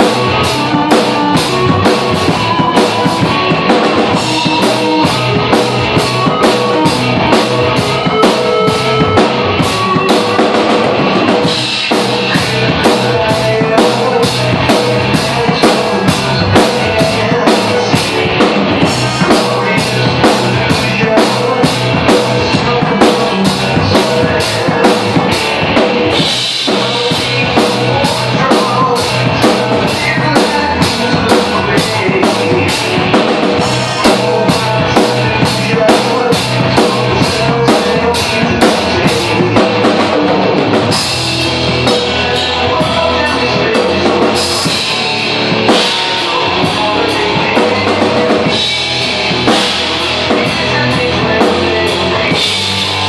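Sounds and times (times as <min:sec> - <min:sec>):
drum kit playing rock beat: 0:00.0 - 0:53.0
rock backing track with guitar: 0:00.0 - 0:53.0.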